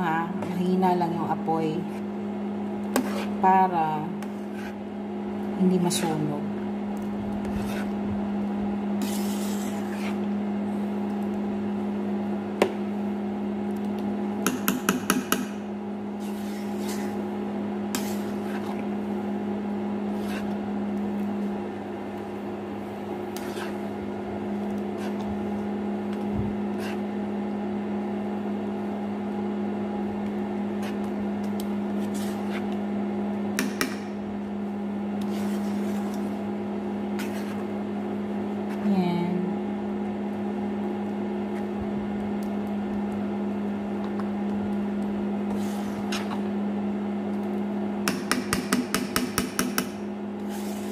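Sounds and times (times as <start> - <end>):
induction cooktop hum: 0.0 - 50.9.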